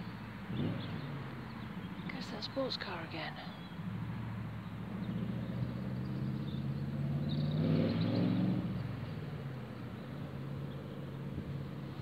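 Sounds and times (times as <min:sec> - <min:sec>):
sports car engine passing: 0:00.0 - 0:12.0.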